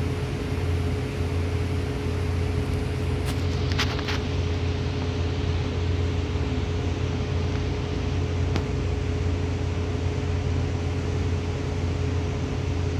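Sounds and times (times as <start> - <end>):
bus engine drone: 0.0 - 12.9
constant hum: 0.0 - 12.9.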